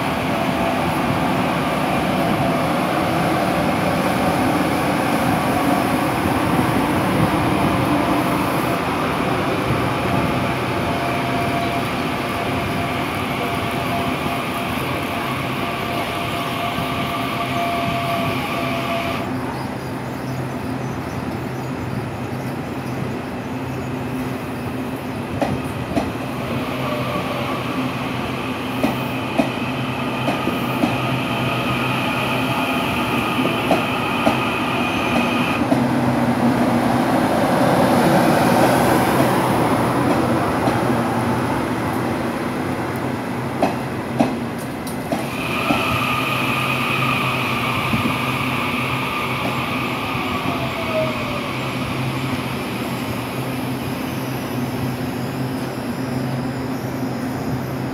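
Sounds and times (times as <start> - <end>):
electric train whine: 0.0 - 57.9
train rumble: 0.0 - 57.9.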